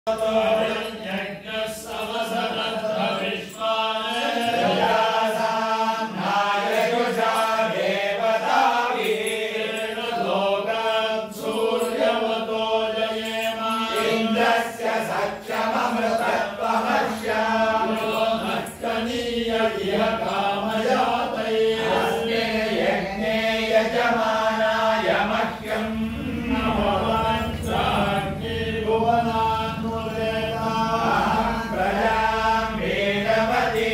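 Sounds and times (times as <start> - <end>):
voices chanting verses: 0.1 - 33.9.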